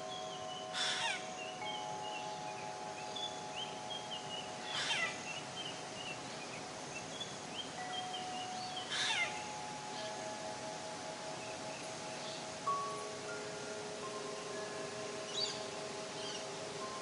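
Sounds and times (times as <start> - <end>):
ringing chime-like tones: 0.0 - 5.9, 6.6 - 17.0.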